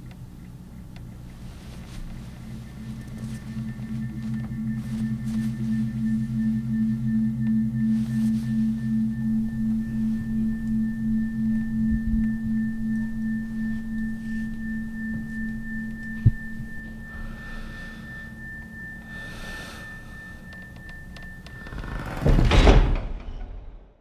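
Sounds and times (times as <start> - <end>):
low electronic drone: 0.0 - 23.4
thin high tone: 1.4 - 22.7.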